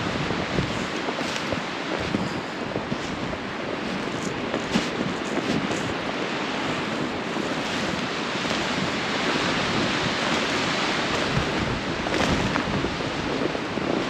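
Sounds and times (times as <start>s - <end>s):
wind blowing hard: 0.0s - 14.0s.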